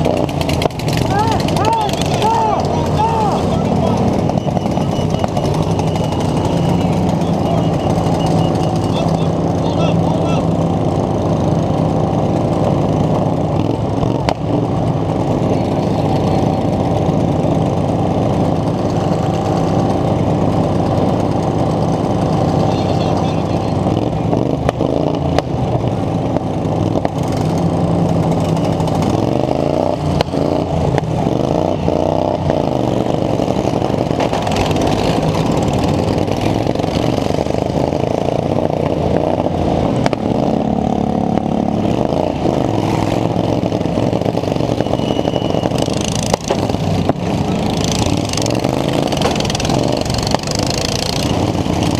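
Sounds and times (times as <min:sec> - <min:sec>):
racing lawn mower engines revving: 0:00.0 - 0:51.9.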